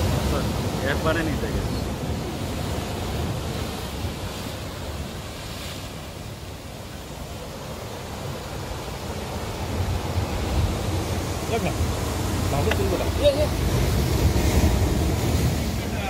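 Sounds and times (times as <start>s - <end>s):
surf breaking on rocky shore: 0.0s - 16.0s.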